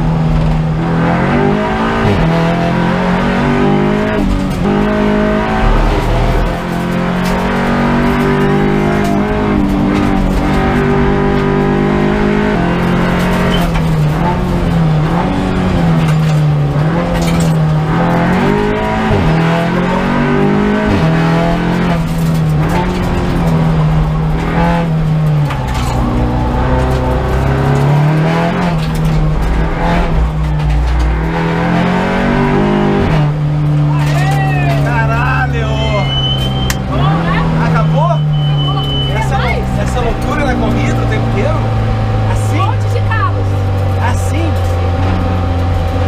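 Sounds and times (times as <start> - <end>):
race car engine shifting gears: 0.0 - 46.0.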